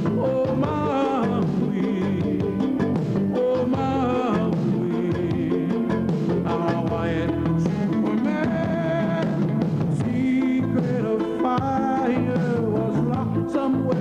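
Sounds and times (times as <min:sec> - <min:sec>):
rock and roll song: 0:00.0 - 0:14.0
singing voice: 0:00.0 - 0:14.0.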